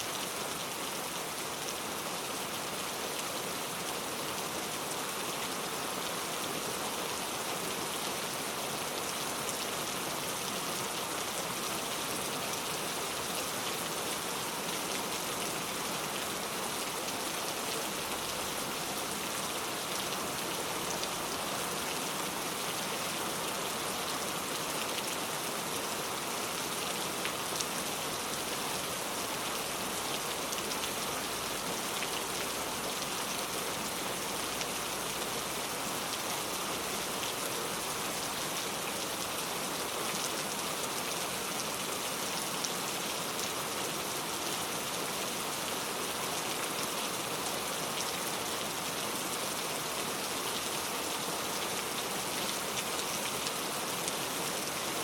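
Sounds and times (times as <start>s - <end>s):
heavy rain on a road: 0.0s - 55.0s.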